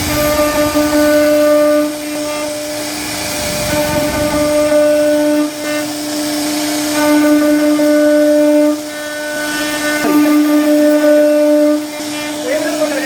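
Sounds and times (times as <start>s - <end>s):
router spindle whining carving wood: 0.0s - 13.0s.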